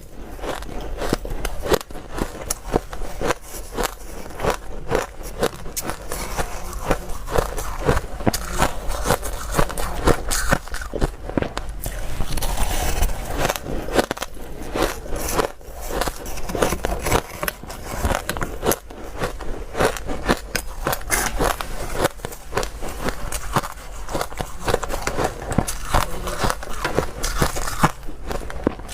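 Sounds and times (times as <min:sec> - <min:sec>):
ice being chewed: 0:00.0 - 0:28.9.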